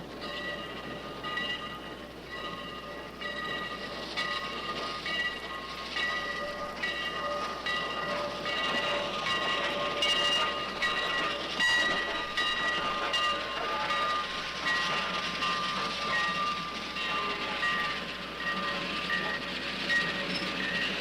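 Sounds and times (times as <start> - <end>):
train wheels squealing on rails: 0.0 - 21.0.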